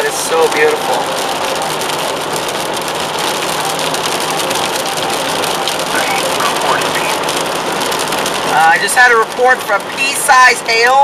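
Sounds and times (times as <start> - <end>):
rain on the car: 0.0 - 11.0
tyres hissing on wet road: 0.0 - 11.0.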